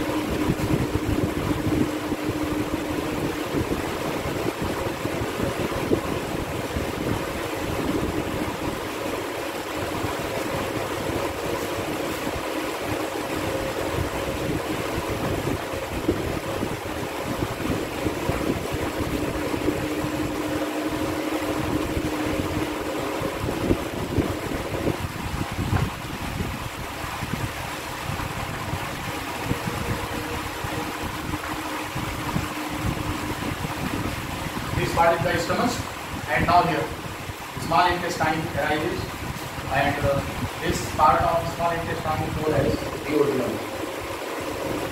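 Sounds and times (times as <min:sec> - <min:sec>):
faint even hum: 0:00.0 - 0:44.9
steady rushing noise: 0:00.0 - 0:44.9.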